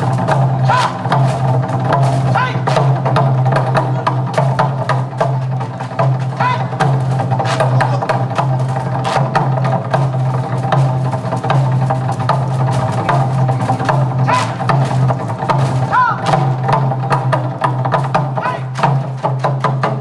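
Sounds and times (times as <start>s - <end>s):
barrel drums struck fast: 0.0s - 20.0s.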